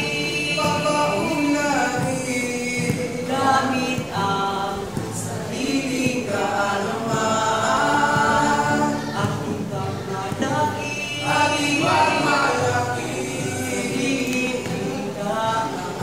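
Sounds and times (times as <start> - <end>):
strummed acoustic guitar: 0.0 - 16.0
young voices singing: 0.0 - 16.0.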